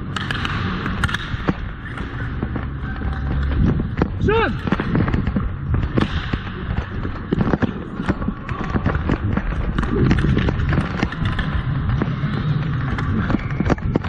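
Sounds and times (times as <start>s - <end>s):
clacks of sticks and ball: 0.0s - 14.0s
low rumble: 0.0s - 14.0s.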